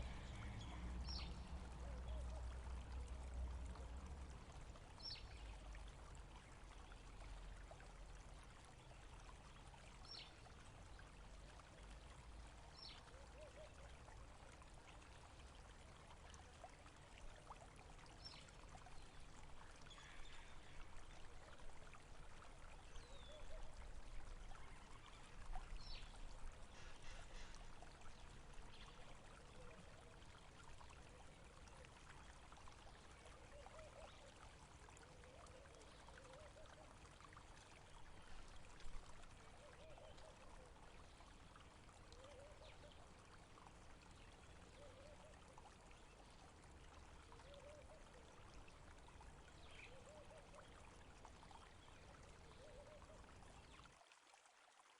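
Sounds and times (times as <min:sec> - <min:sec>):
stream trickling and gurgling: 0:00.0 - 0:54.9.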